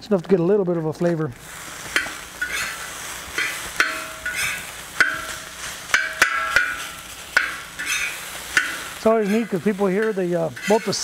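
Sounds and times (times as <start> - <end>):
frying sizzle: 1.4 - 11.0
metal spatula clanging on wok: 2.0 - 11.0.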